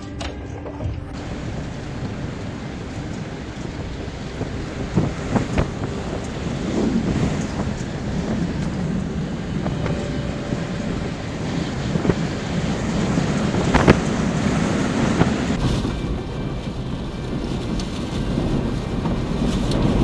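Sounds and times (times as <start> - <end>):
storm wind buffeting microphone: 0.0 - 20.0.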